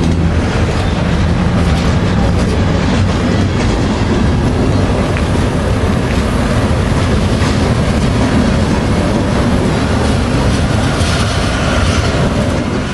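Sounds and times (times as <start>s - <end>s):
train wheels rumbling on rails: 0.0s - 12.9s
wheels clicking over rail joints: 0.0s - 12.9s.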